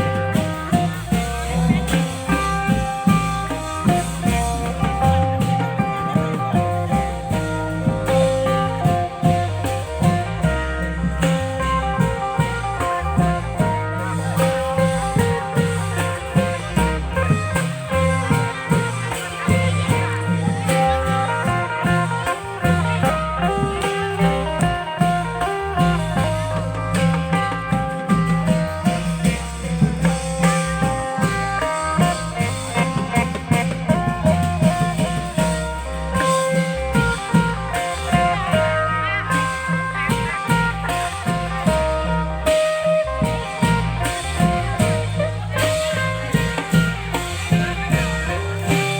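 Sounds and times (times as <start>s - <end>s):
bass line: 0.0s - 48.9s
drum and cymbal beat: 0.0s - 48.9s
plucked string melody: 0.0s - 48.9s.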